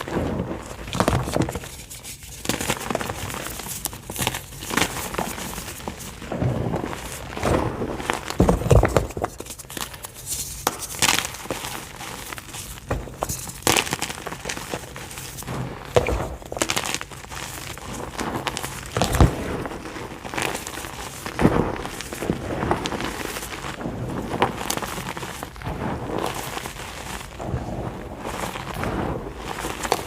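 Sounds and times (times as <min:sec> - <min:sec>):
chalk crunching and crackling: 0:00.0 - 0:30.0.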